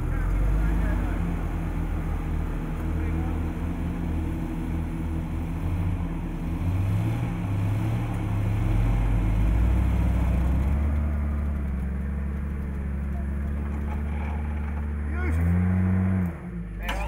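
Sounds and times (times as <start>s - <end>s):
vehicle engine under load: 0.0s - 17.0s.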